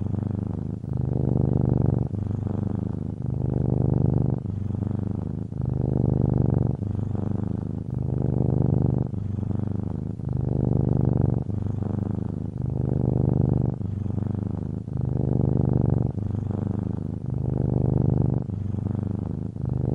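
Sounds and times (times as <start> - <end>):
cat purring: 0.0 - 19.9.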